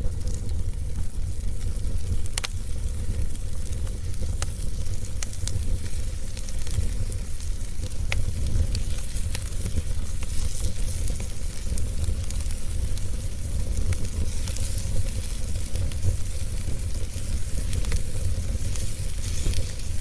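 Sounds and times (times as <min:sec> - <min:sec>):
fire crackling and popping: 0:00.0 - 0:20.0
fire rumbling and hissing: 0:00.0 - 0:20.0.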